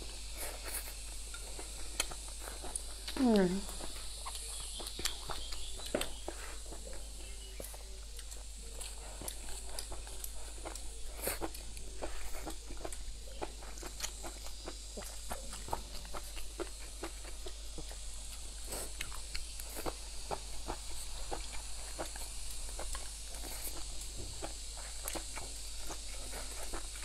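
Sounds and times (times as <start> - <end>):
wet chewing and lip smacking: 0.2 - 27.0.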